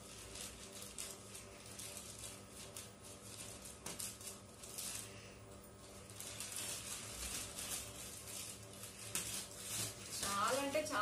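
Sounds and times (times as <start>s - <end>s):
scissors cutting plastic: 0.0s - 5.2s, 6.0s - 11.0s
plastic bag crinkling: 0.0s - 11.0s
steady low hum: 0.0s - 11.0s.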